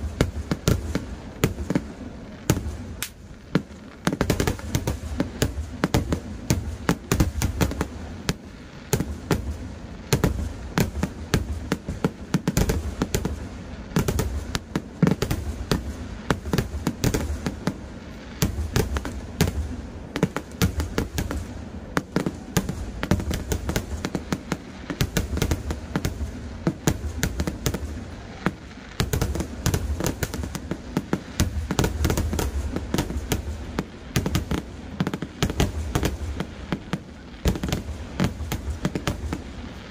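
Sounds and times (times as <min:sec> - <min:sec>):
firecracker cracks: 0:00.0 - 0:39.9.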